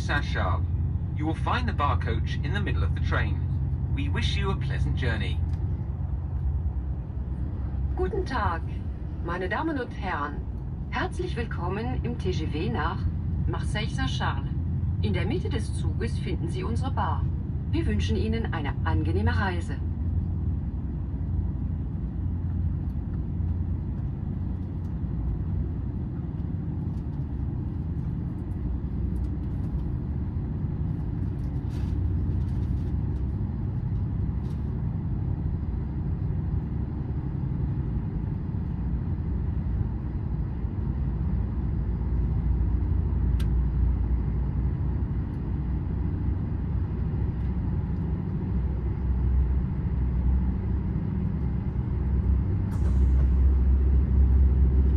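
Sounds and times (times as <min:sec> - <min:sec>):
train rumble from inside carriage: 0:00.0 - 0:54.9.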